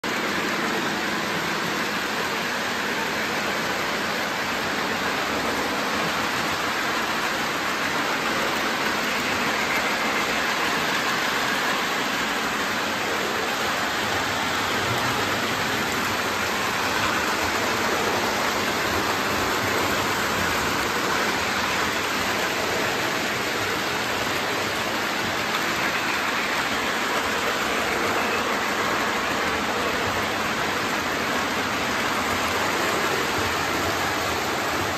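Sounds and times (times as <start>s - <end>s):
model trains whirring on track: 0.0s - 34.9s.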